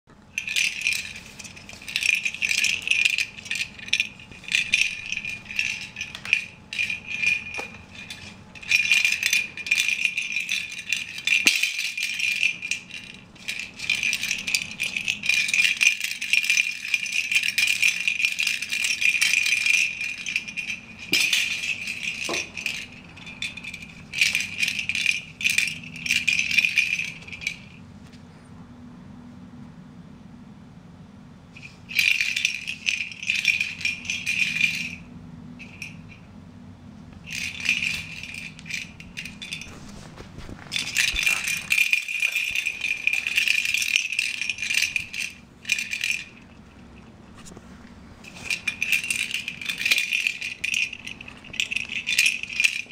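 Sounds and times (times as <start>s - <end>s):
ball toy with bell rattling: 0.3s - 27.8s, 31.6s - 36.3s, 37.2s - 47.6s, 48.2s - 52.9s.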